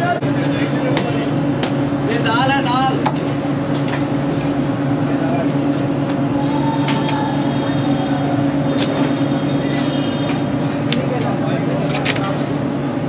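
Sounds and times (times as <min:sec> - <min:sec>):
griddle kitchen drone and hiss: 0:00.0 - 0:13.0.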